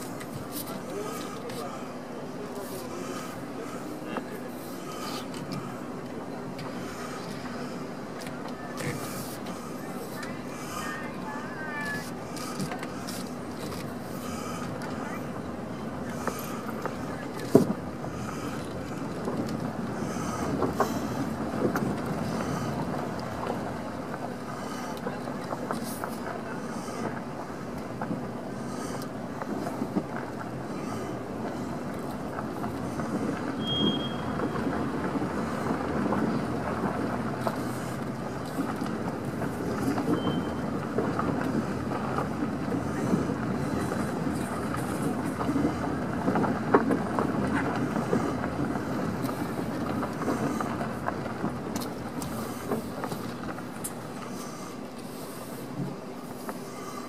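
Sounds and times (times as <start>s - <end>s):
tyres rumbling on gravel: 0.0s - 57.0s.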